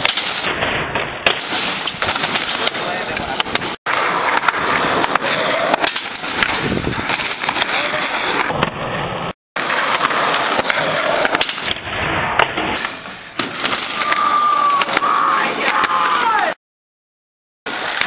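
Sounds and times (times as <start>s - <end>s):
skateboard wheels rolling on concrete: 0.0s - 16.6s, 17.7s - 18.0s.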